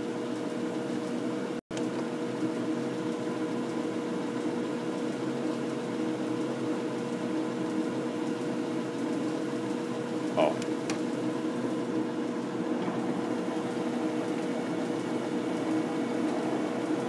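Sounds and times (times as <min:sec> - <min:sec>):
lathe mechanical hum: 0:01.8 - 0:17.0.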